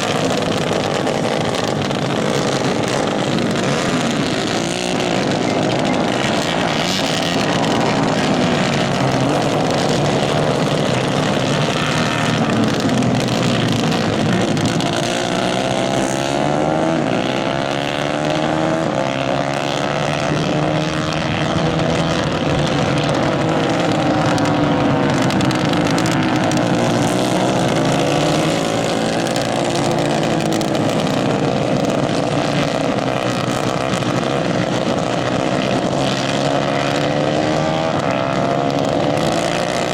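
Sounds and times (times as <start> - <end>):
racing kart engines revving: 0.0 - 39.9.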